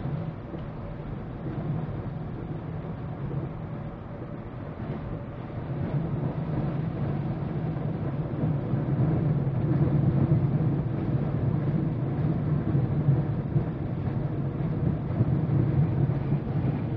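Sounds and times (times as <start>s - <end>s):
engine and tyres drone: 0.0s - 16.9s.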